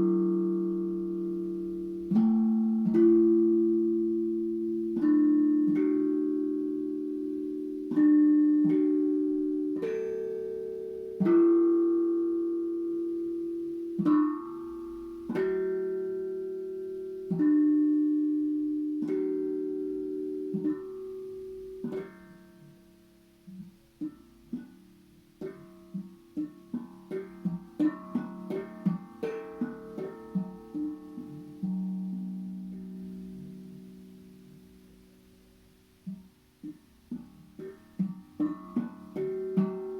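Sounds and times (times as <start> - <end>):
steel tongue drum notes: 0.0 - 39.9.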